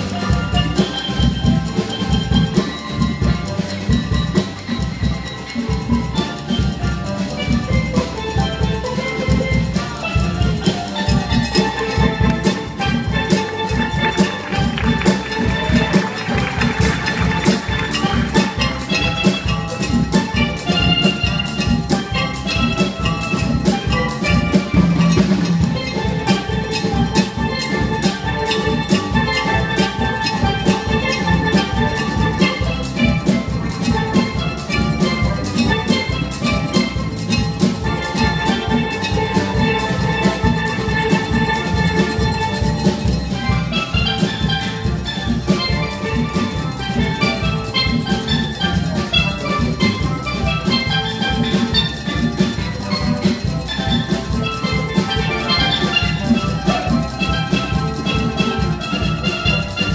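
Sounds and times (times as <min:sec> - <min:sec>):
drums: 0:00.0 - 0:59.9
steel pans playing melody: 0:00.0 - 0:59.9.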